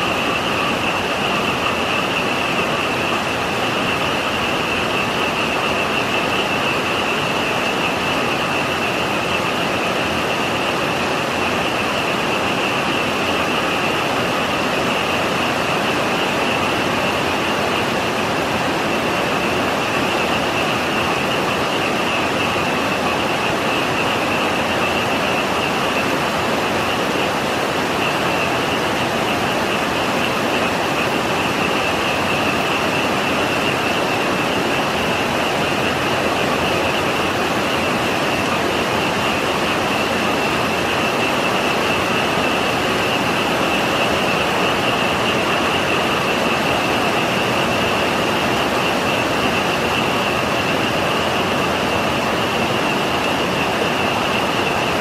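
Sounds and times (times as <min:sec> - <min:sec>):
frog chorus: 0:00.0 - 0:55.0
heavy rain pouring: 0:00.0 - 0:55.0.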